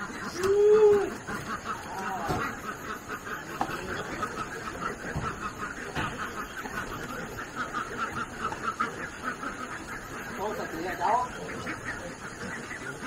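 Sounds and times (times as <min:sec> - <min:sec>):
animals calling quickly: 0:00.0 - 0:13.0.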